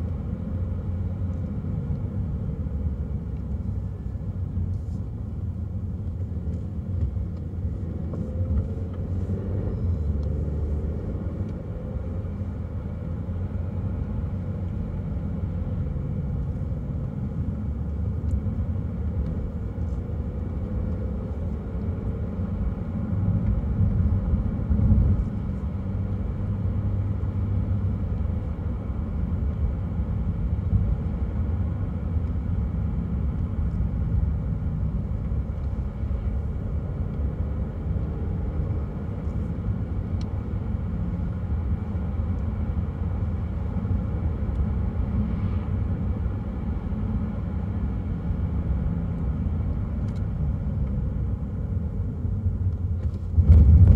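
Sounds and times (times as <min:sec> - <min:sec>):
car engine and tyres rumbling: 0:00.0 - 0:53.9.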